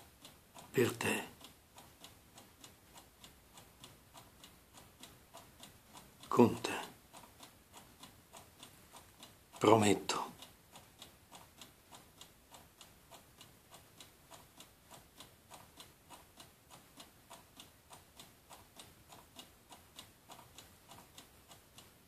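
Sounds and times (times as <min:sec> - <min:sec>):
clock ticking: 0:00.0 - 0:22.0.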